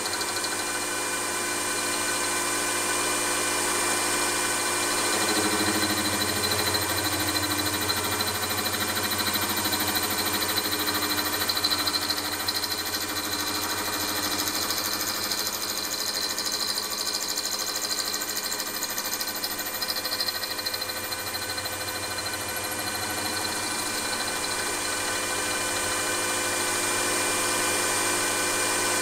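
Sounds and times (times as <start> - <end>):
milling machine motor whine: 0.0 - 29.0
end mill cutting metal: 4.0 - 27.3.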